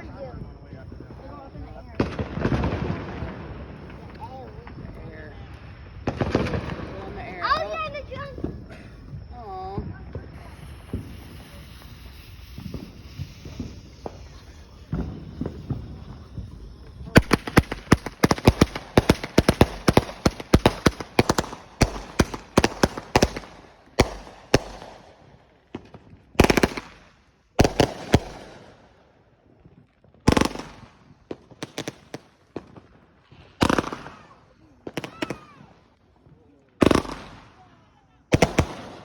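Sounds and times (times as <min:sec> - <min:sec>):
fireworks rapid bangs: 0:00.0 - 0:28.9, 0:30.2 - 0:39.0
big firework bangs: 0:00.0 - 0:29.0, 0:29.6 - 0:39.0.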